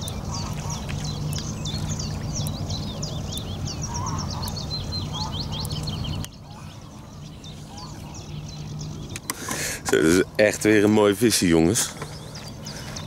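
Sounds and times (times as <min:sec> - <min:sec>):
small birds chirping and trilling: 0:00.0 - 0:13.0.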